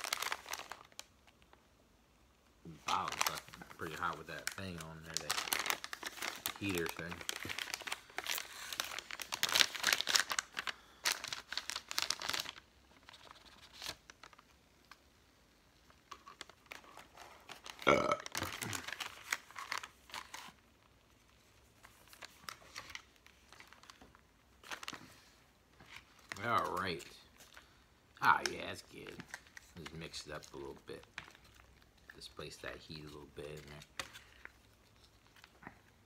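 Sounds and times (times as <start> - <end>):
plastic packaging crinkling: 0.0 - 1.6, 2.7 - 15.1, 15.8 - 36.0.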